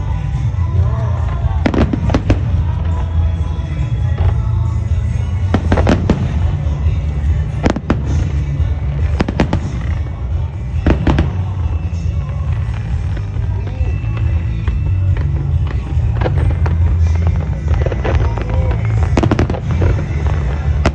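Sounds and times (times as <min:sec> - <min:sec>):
fireworks banging: 0:00.0 - 0:20.9.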